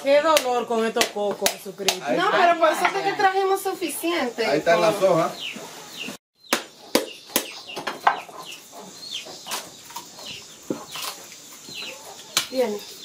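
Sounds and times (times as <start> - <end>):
chickens clucking: 0.4 - 13.0.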